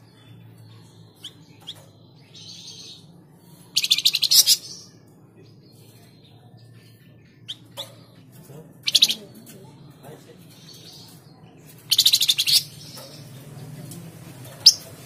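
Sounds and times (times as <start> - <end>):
songbird chirping and chattering: 0.0 - 15.0.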